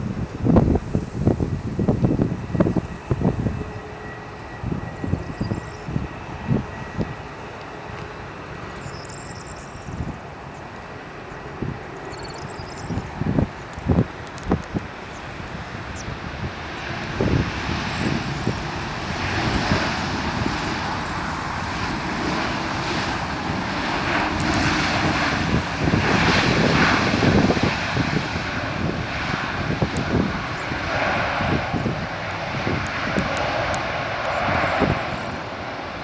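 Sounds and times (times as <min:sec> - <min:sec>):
jet plane landing rush: 0:00.0 - 0:36.0.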